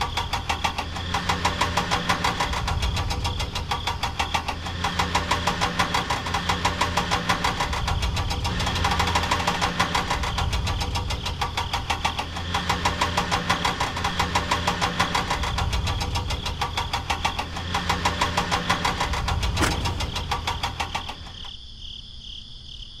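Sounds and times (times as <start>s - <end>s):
small motor knocking and humming: 0.0s - 21.4s.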